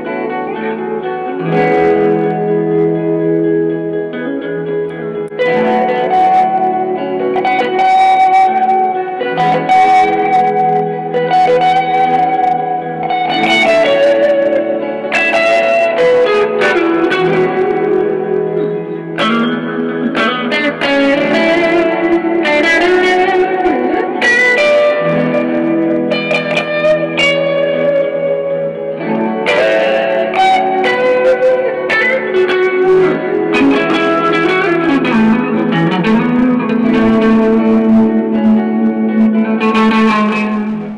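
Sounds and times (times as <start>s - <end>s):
looped sustained guitar notes: 0.0s - 40.9s
plucked guitar notes: 0.0s - 40.9s.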